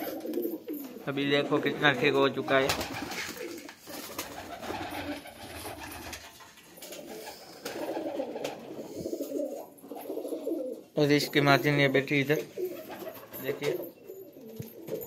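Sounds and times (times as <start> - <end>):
pigeons cooing: 0.0 - 11.0, 12.4 - 15.0.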